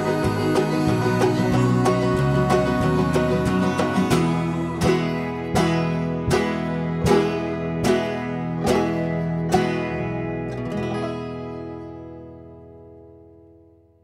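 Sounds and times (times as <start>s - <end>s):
acoustic plucked-string instrumental: 0.0s - 14.0s.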